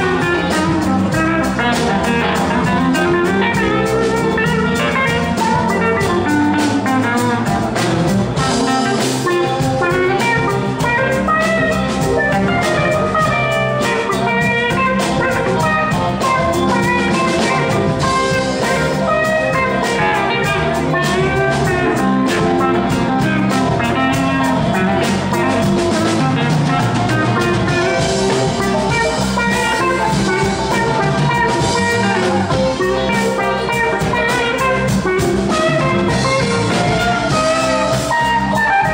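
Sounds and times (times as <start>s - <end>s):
lead guitar run: 0.0s - 38.9s
live rock band playing: 0.0s - 38.9s.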